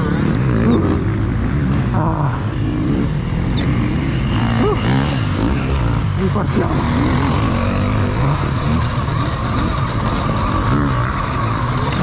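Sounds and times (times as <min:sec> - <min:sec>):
wind and tyre noise: 0:00.0 - 0:12.0.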